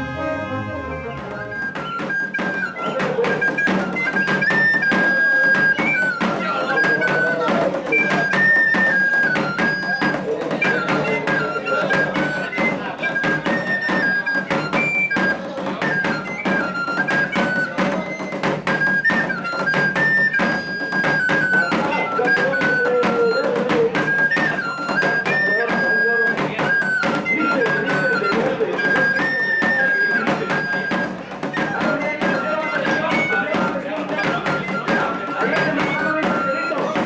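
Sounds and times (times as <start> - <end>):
drum strokes: 0.0 - 37.0
flute melody: 0.0 - 37.0.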